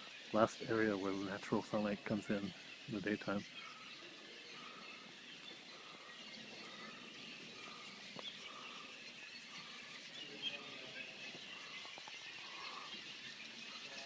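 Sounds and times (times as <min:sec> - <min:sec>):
swallows twittering faintly: 0:00.0 - 0:14.0.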